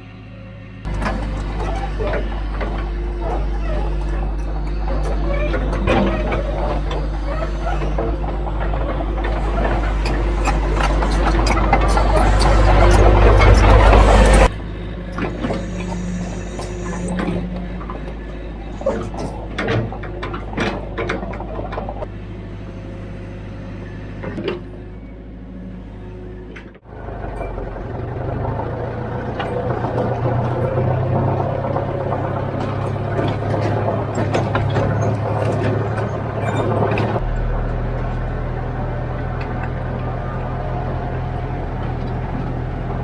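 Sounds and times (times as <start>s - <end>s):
heavy machinery diesel engine: 0.0s - 43.0s.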